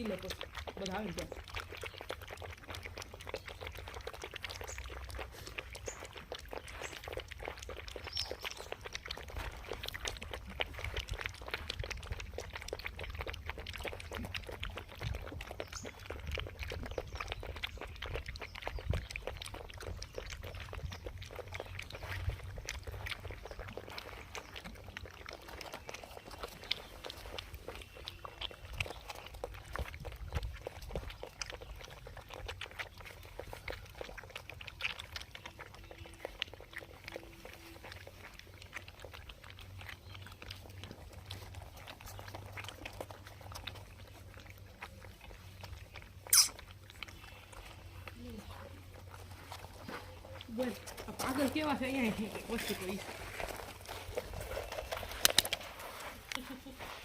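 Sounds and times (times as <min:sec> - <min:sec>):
puppies lapping water: 0:00.0 - 0:57.0.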